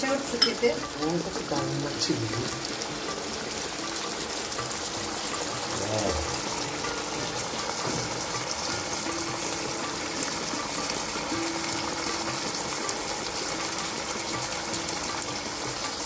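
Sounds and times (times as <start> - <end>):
sauce bubbling in a frying pan: 0.0 - 16.0.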